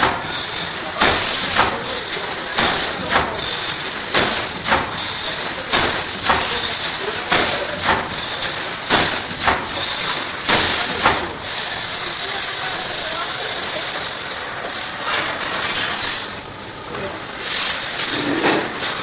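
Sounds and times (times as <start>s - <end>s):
welding machine clanking: 0.0s - 19.0s
steady high hiss: 0.3s - 18.2s.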